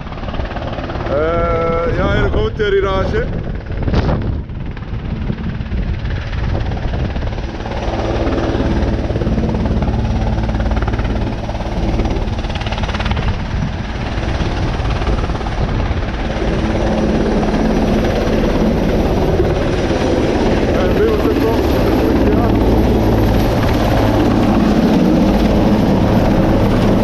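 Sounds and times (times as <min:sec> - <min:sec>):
helicopter rotor and engine: 0:00.0 - 0:27.0.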